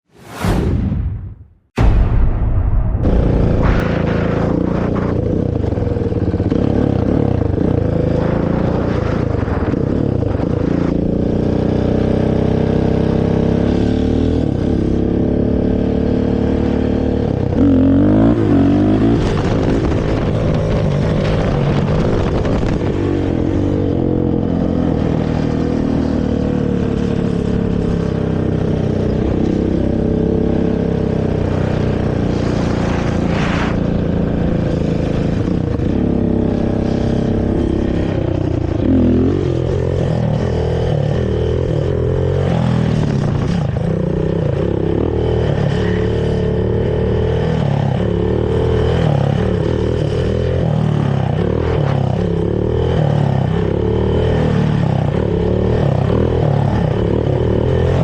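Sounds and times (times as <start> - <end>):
quad bike engine revving: 3.1 - 58.0.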